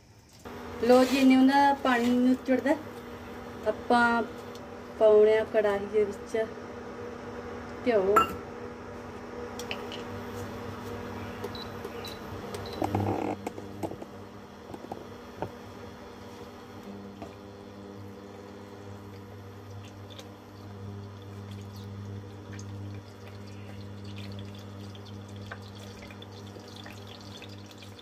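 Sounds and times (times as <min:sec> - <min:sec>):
induction cooktop humming: 0:00.1 - 0:28.0.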